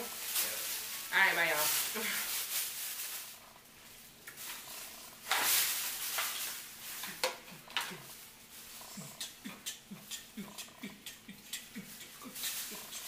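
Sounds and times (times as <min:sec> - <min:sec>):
plastic bag rustling and crinkling: 0:00.0 - 0:09.4, 0:11.8 - 0:13.0.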